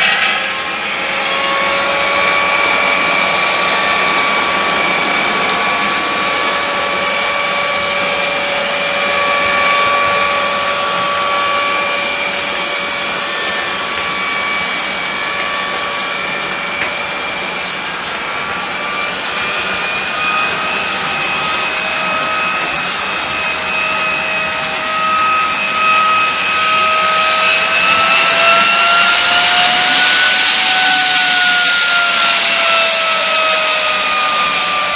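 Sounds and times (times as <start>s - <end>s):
model train motor whining: 0.0s - 34.9s
wheel noise: 0.0s - 34.9s.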